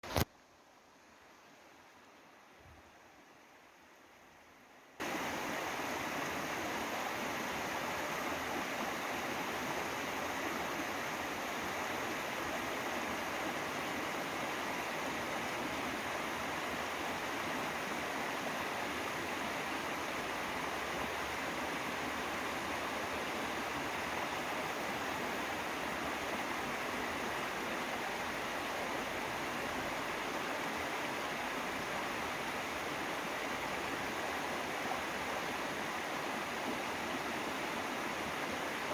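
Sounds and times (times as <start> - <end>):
stream rushing over rocks: 5.0 - 38.9.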